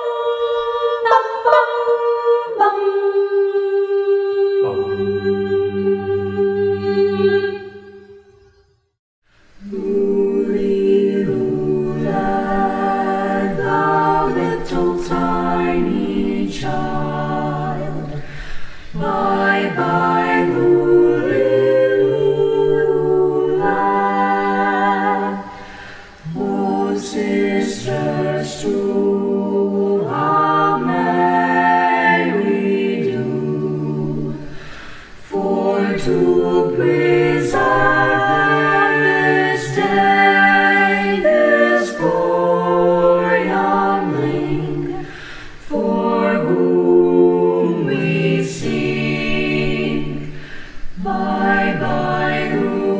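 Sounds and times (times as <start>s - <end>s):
choir singing a cappella: 0.0s - 8.6s, 9.4s - 52.9s.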